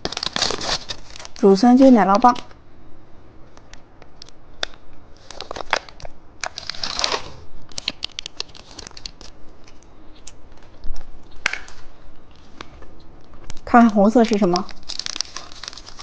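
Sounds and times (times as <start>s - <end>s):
plastic wrapper crinkling: 0.0s - 2.5s, 4.2s - 16.0s.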